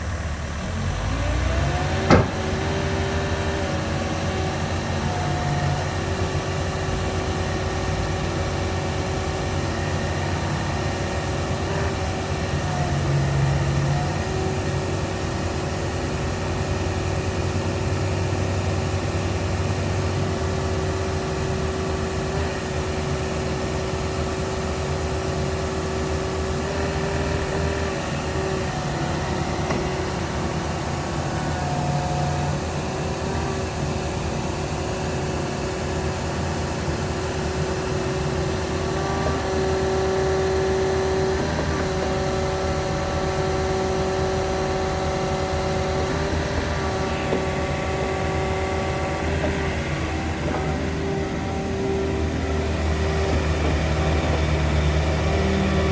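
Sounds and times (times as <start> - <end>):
constant whine: 0.0 - 55.9
excavator diesel engine revving: 0.0 - 55.9.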